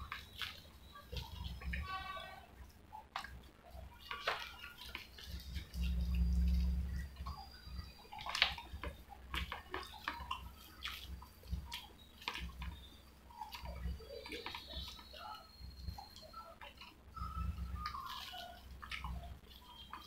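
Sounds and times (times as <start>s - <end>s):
wet chewing and squishing: 0.0s - 20.0s.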